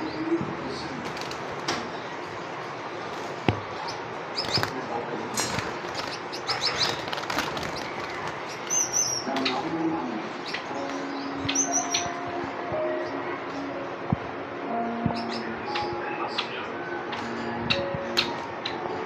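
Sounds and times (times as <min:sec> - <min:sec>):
cage birds chirping: 0:00.0 - 0:19.0.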